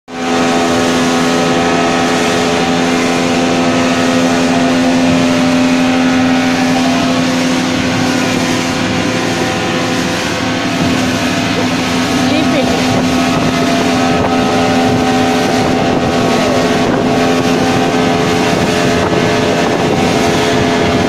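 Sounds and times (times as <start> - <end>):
motorboat engine humming: 0.1 - 21.0
wind and water rushing: 0.1 - 21.0.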